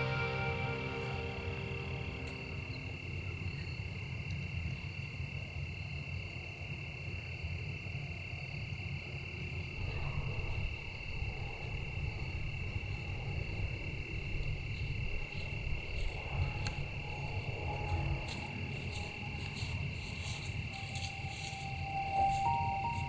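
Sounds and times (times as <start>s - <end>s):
insects chorus ringing: 0.0s - 23.0s.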